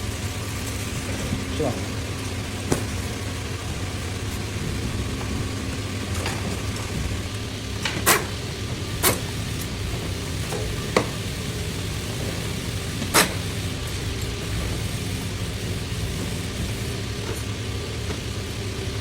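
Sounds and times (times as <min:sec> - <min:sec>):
sewing machine hum: 0:00.0 - 0:19.0.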